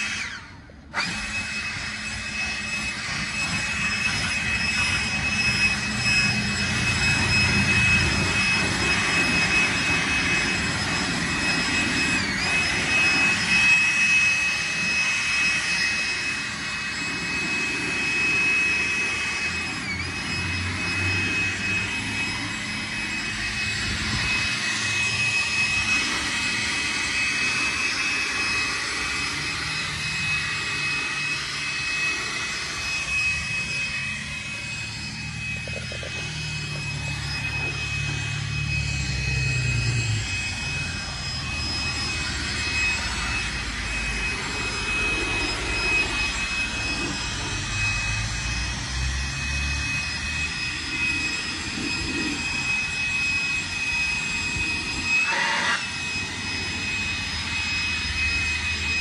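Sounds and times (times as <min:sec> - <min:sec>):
leaf blower whine and rushing air: 0:00.0 - 0:59.0.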